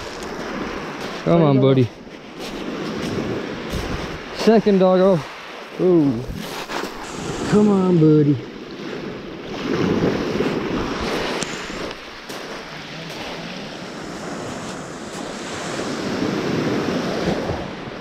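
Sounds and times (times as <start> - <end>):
sea waves washing in: 0.0 - 18.0.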